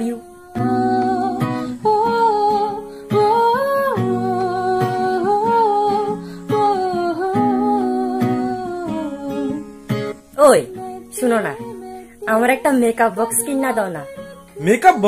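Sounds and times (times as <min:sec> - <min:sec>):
plucked acoustic guitar: 0:00.0 - 0:15.0
vocal melody in held notes: 0:00.0 - 0:15.0.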